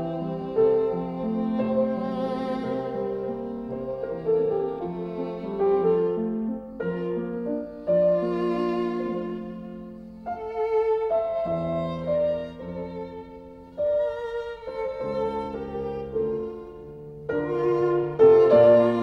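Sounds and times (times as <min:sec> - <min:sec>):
slow violin melody: 0:00.0 - 0:19.0.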